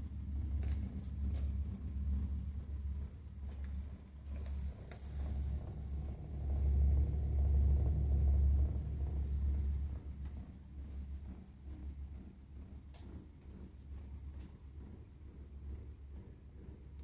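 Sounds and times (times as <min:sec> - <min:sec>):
gas boiler rumbling: 0:00.0 - 0:17.0.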